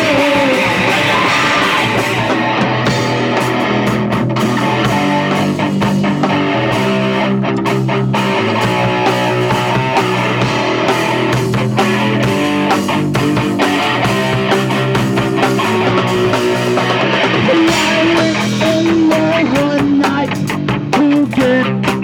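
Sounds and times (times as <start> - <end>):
punk rock band playing: 0.0 - 22.0
strummed electric guitar: 0.0 - 22.0.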